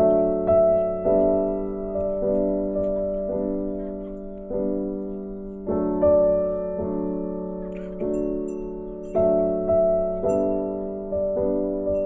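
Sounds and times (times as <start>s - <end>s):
slow piano-like keyboard music: 0.0s - 12.0s.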